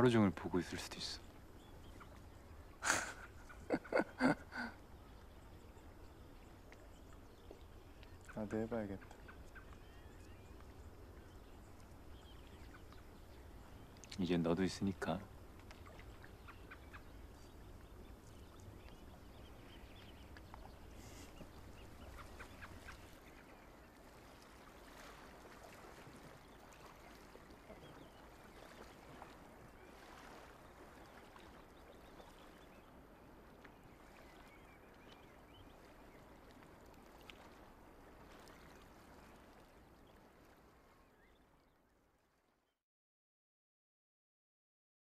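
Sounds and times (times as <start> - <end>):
distant bird calls: 0.0 - 42.0
soft water wash: 0.0 - 42.4.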